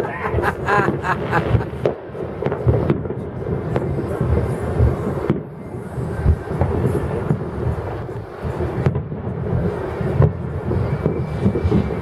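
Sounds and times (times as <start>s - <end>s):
distant fireworks booming: 0.0s - 12.0s
sharp fireworks cracks: 0.0s - 12.0s.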